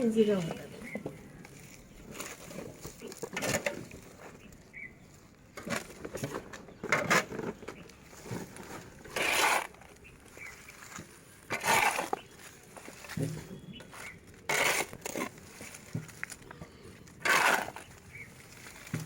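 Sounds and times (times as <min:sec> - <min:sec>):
soil scraping and rustling: 0:00.0 - 0:19.0.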